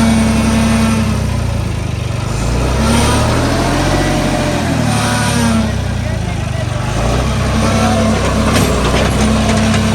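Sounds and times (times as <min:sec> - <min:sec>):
tractor diesel engine running: 0:00.0 - 0:09.9.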